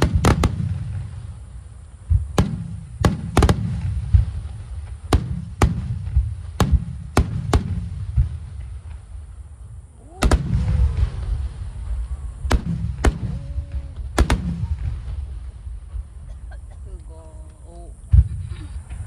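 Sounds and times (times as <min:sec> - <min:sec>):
deep rumbling of shell bursts: 0:00.0 - 0:16.5
fireworks bangs: 0:00.0 - 0:19.0.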